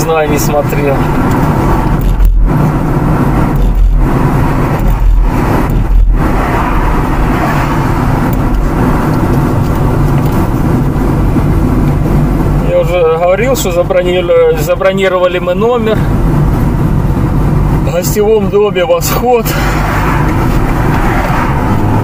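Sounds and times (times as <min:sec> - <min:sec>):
car engine and tyre noise: 0:00.0 - 0:22.0
heavy low rumbles: 0:00.0 - 0:22.0.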